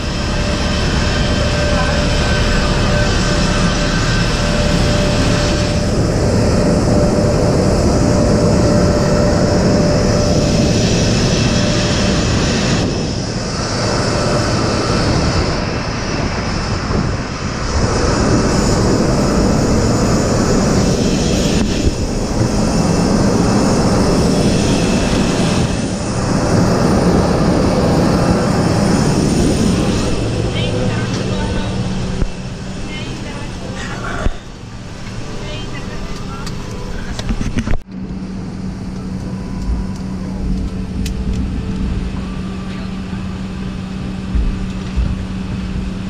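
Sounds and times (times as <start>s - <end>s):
faint whine: 0.0s - 46.0s
jet engine roar: 0.0s - 46.0s.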